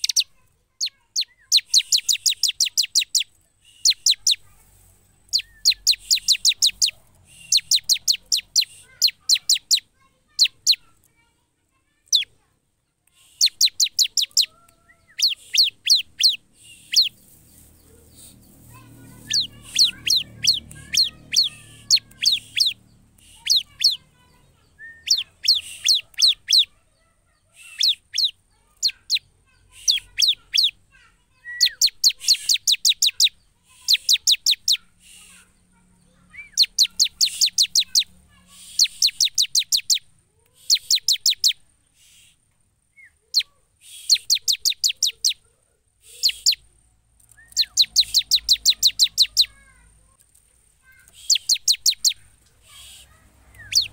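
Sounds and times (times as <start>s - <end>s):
bird singing sharp high chirps: 0.0s - 4.6s, 5.2s - 10.9s, 12.1s - 12.4s, 13.1s - 26.8s, 27.4s - 45.4s, 46.0s - 49.8s, 50.9s - 53.9s.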